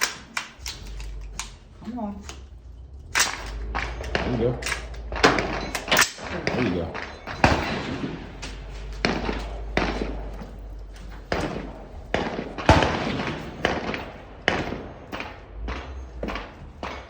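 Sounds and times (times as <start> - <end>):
rifle gunfire: 0.0 - 1.7, 3.1 - 17.0.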